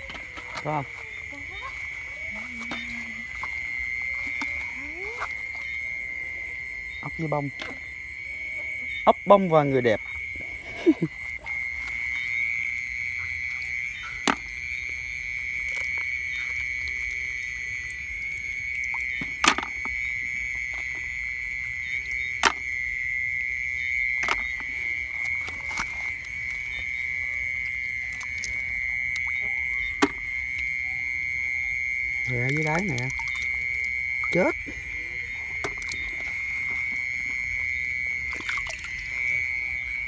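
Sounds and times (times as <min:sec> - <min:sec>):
night insects and frogs chorus: 0:00.0 - 0:40.0.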